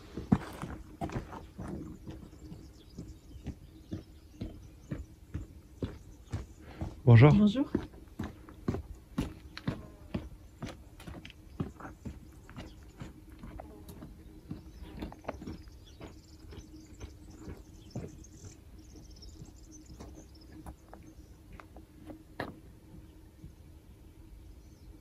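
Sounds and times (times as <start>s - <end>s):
footsteps on rocky ground: 0.0s - 23.7s.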